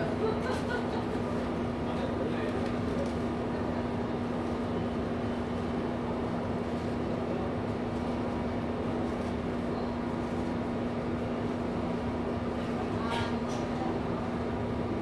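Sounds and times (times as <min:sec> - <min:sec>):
standing train humming: 0:00.0 - 0:15.0.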